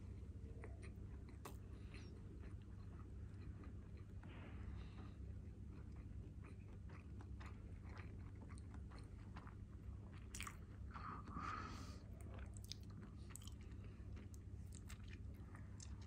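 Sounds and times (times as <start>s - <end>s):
person chewing: 0.0s - 4.3s, 5.0s - 16.0s.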